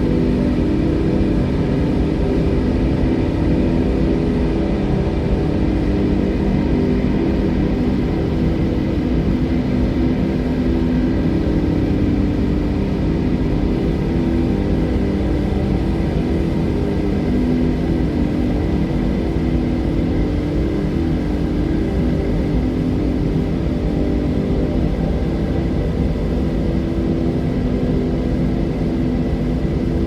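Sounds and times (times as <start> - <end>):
steady wind: 0.0 - 30.0.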